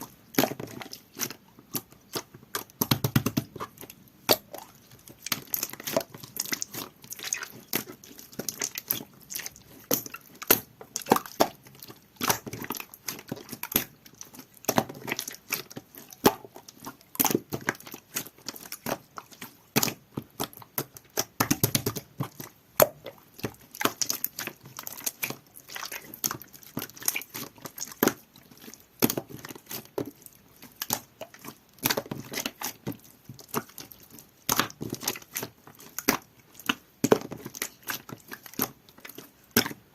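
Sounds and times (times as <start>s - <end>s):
slime squished by hand: 0.1s - 39.8s.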